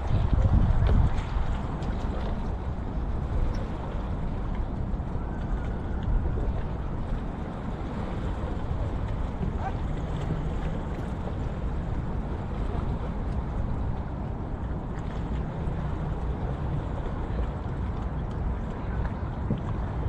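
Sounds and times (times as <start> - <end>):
boat passing: 0.0 - 20.0
wind on microphone: 0.0 - 20.0.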